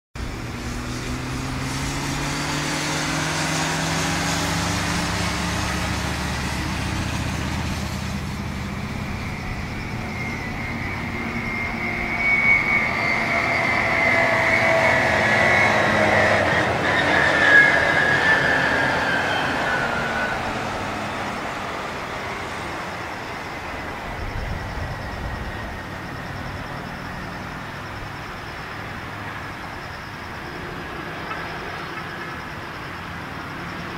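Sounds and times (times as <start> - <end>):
high engine whine: 0.2 - 33.9
jet engines roaring: 0.2 - 33.9.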